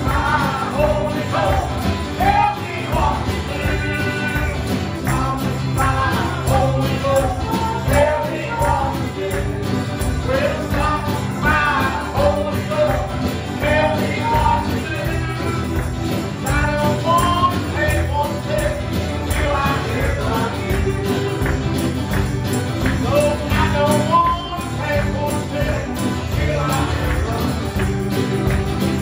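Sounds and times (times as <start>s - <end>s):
man singing into a microphone: 0.0s - 21.9s, 22.8s - 29.0s
gospel music accompaniment: 0.0s - 29.0s
jingling percussion: 0.0s - 29.0s.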